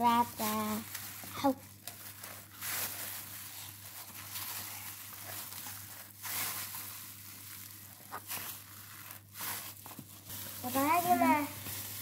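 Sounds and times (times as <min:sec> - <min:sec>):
gloved hand working dough: 0:00.0 - 0:12.0.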